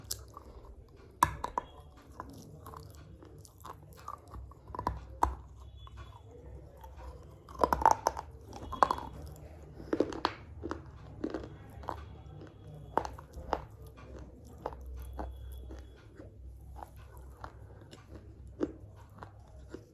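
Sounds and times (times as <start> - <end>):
crunching and chewing clay: 0.0 - 19.9.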